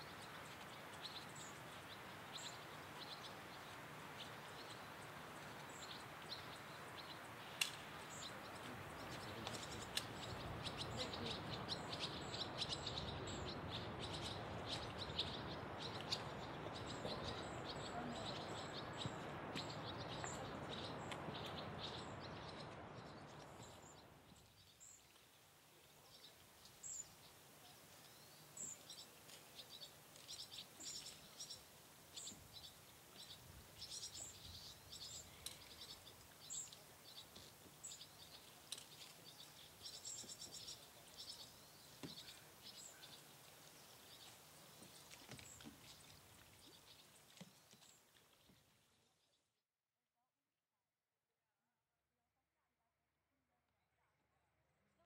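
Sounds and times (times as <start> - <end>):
small birds chirping: 0.0 - 49.4.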